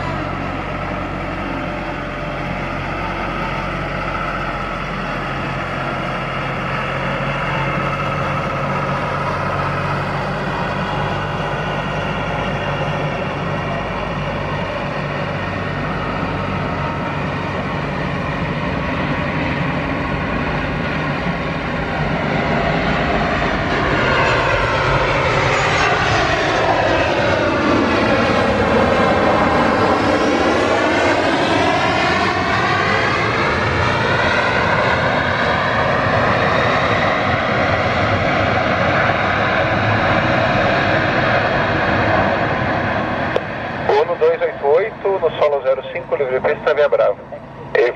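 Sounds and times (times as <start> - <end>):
jet airliner engine roar: 0.0 - 47.9.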